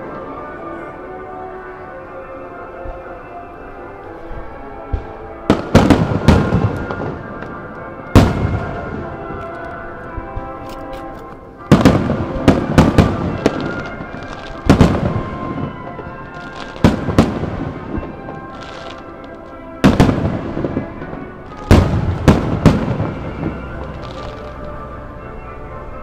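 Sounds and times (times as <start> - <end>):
music playing: 0.0 - 26.0
fireworks booming: 4.0 - 25.5.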